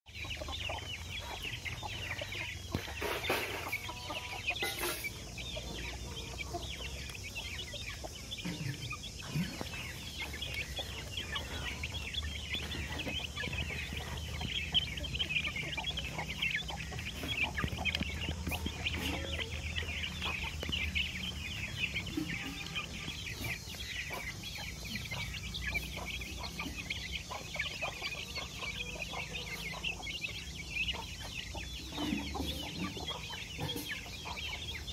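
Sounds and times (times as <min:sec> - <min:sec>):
chicks peeping: 0:00.1 - 0:34.9.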